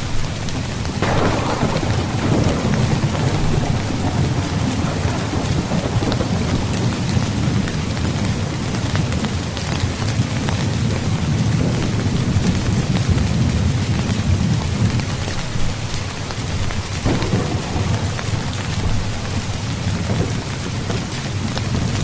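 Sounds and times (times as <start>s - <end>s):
heavy rain on a tent: 0.0s - 22.0s
low rumble of thunder: 0.2s - 15.8s, 16.6s - 22.0s.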